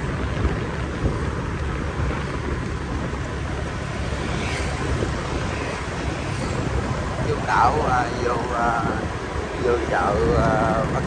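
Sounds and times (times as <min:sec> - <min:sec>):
motorbike engine hum: 0:00.0 - 0:11.0
wind rush over microphone: 0:00.0 - 0:11.0.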